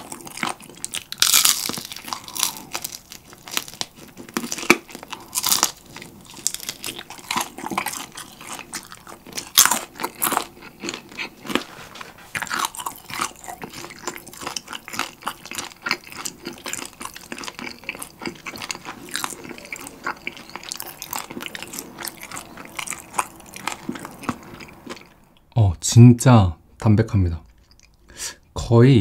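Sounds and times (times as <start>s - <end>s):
crunchy chewing of fried chicken: 0.0s - 25.4s.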